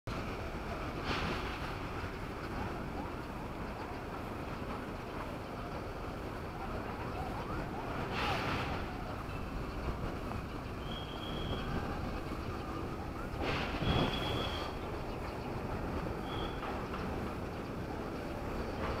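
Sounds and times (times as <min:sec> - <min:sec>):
train wheels rumbling on rails: 0:00.1 - 0:19.0.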